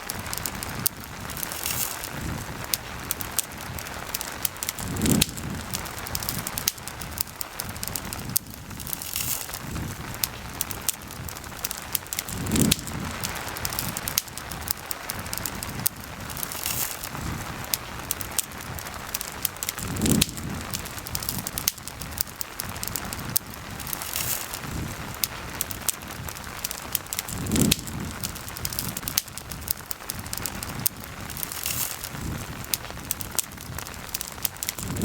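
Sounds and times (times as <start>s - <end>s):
campfire crackling and popping: 0.0s - 35.0s
rain patter: 0.0s - 35.0s.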